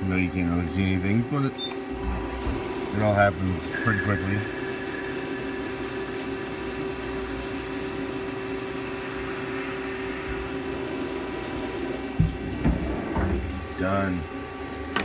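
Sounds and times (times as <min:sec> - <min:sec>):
lathe machine hum: 0:00.0 - 0:15.0.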